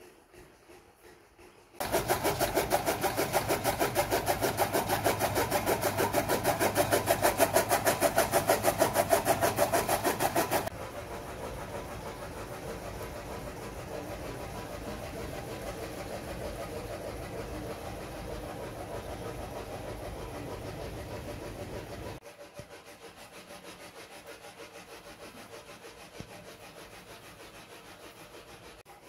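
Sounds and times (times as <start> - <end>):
chaff cutter blade pulsing: 0.0 - 29.0
quiet steady motor hum: 0.0 - 29.0.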